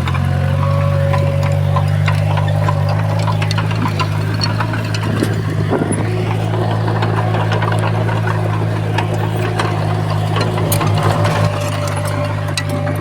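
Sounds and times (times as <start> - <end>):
diesel engine droning: 0.0 - 13.0
light clicks and clanks: 0.0 - 13.0.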